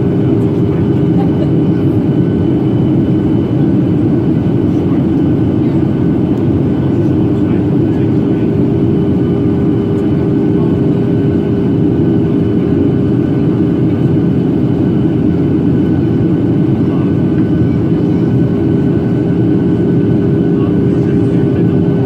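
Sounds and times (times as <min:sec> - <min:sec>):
airplane cabin engine roar: 0:00.0 - 0:22.0.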